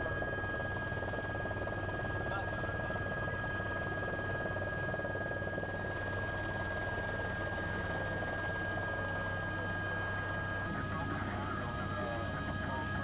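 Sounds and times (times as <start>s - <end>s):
helicopter rotor noise: 0.0s - 13.0s.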